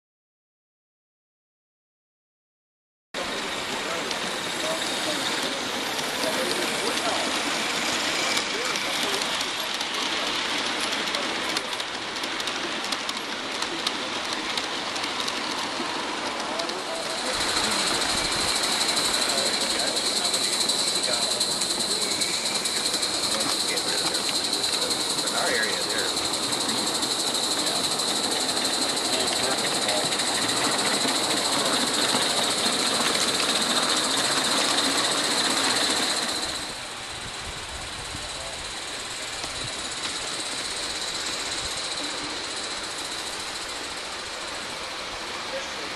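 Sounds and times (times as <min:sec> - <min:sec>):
steady steam hiss: 0:03.2 - 0:45.9
wheels clicking over rail joints: 0:03.2 - 0:45.9.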